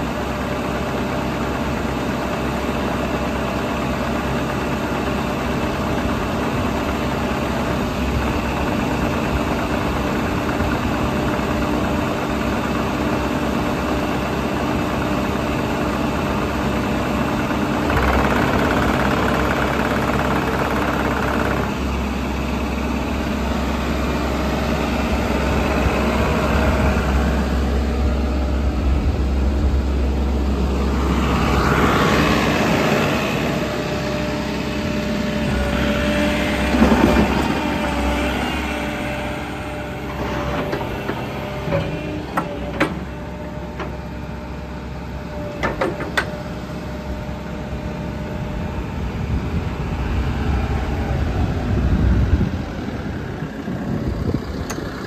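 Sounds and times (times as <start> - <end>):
excavator diesel engine idling: 0.0 - 55.0.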